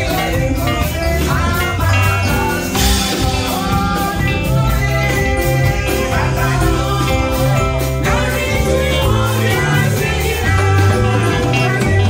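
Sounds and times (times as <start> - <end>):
drums: 0.0 - 12.0
group singing praise music: 0.0 - 12.0
keyboard: 0.0 - 12.0.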